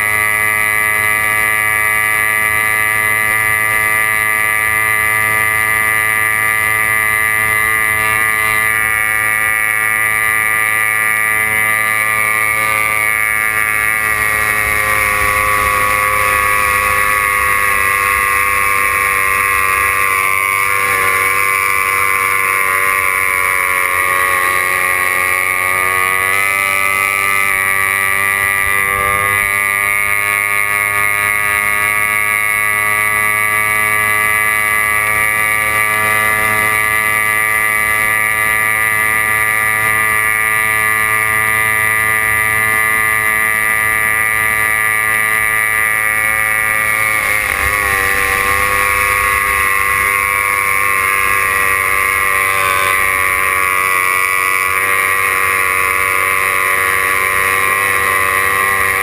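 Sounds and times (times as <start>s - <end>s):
boat engine at high revs: 0.0s - 59.0s.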